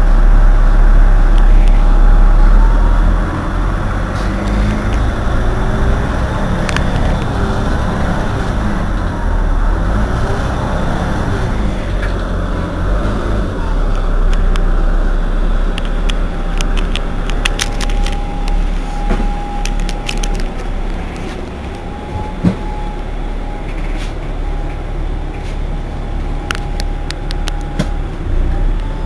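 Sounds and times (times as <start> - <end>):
thin steady whine: 0.0 - 9.9, 10.5 - 29.0
bus engine idling: 0.0 - 29.0.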